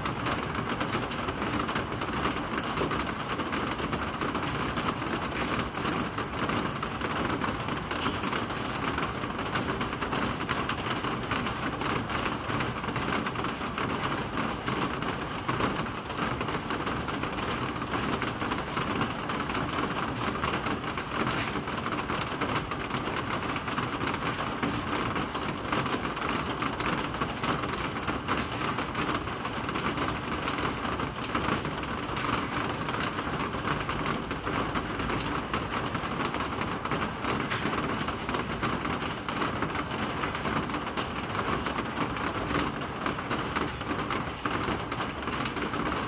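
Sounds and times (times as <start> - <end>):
rain on hard surfaces: 0.0 - 46.0.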